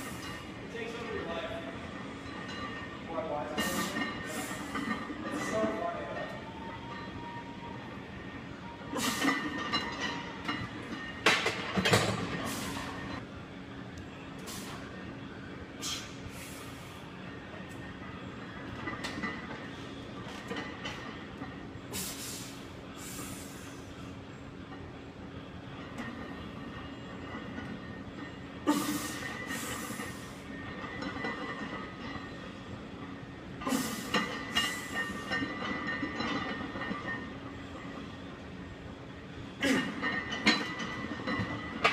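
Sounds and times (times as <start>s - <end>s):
steady background hum: 0.0s - 41.9s.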